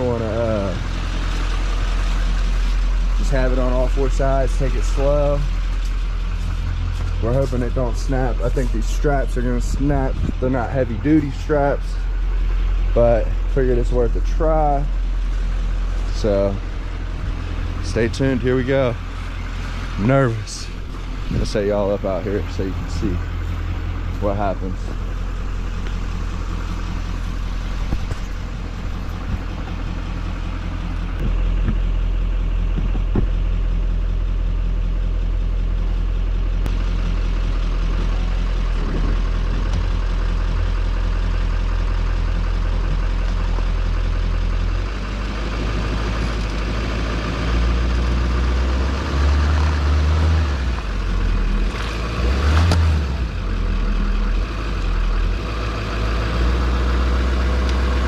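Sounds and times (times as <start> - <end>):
diesel truck engine revving: 0.0 - 58.0.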